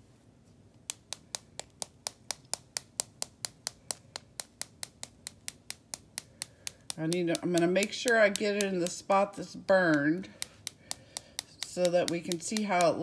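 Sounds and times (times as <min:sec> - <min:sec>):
finger tapping plastic pot: 0:00.8 - 0:13.0.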